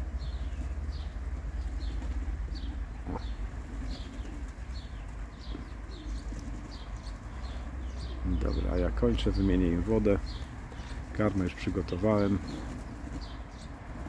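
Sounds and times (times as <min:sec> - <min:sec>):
wing flapping: 0:00.0 - 0:08.1, 0:09.8 - 0:14.0
pigeons cooing: 0:00.0 - 0:14.0.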